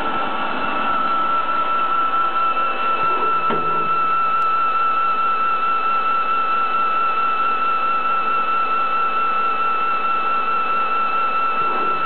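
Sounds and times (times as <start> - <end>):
machine motor high-pitched whine: 0.0 - 12.0.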